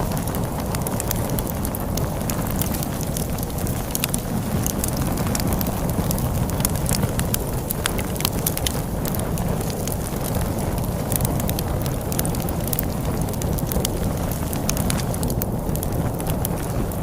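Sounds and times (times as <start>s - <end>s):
log fire crackling: 0.0s - 17.0s
low rumble of wind: 0.0s - 17.0s.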